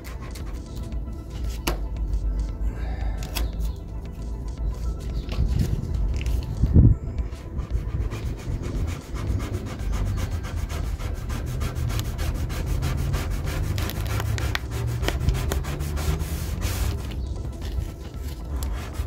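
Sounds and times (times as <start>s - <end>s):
rapid rubbing on decal tape: 0.0s - 2.5s, 3.4s - 19.0s.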